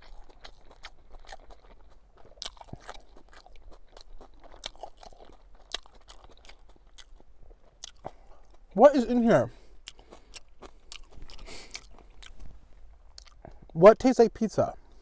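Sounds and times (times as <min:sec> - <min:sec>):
man chewing food: 0:00.0 - 0:13.8.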